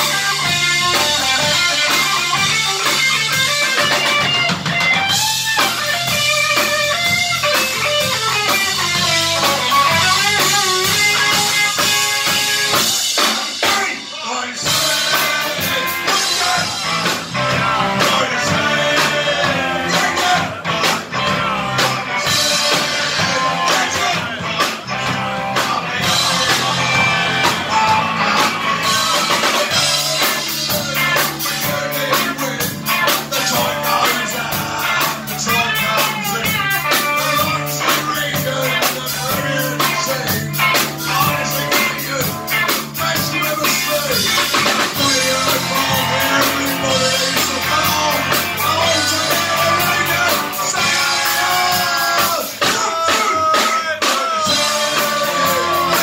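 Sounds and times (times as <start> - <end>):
driving bass line: 0.0 - 56.0
drums and cymbals: 0.0 - 56.0
live rock band playing: 0.0 - 56.0.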